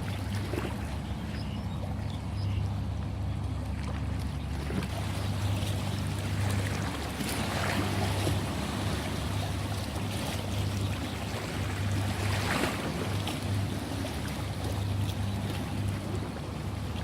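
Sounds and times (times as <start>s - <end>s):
low rumble of surf: 0.0s - 17.0s
ocean waves washing: 0.0s - 17.0s.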